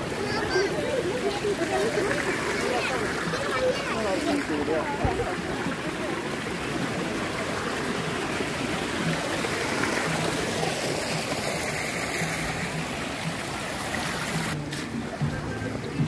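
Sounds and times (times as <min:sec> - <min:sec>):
water rushing along concrete channel: 0:00.0 - 0:16.0.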